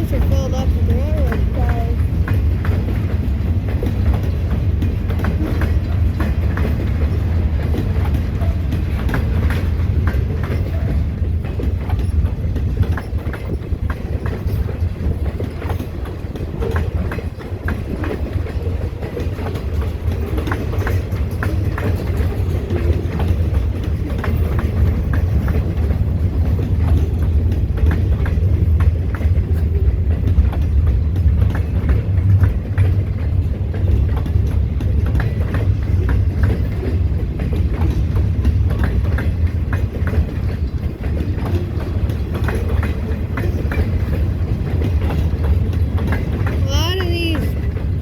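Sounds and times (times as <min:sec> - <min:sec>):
steel wheels rumbling on rail: 0:00.0 - 0:48.0
wheels clacking over rail joints: 0:00.0 - 0:48.0.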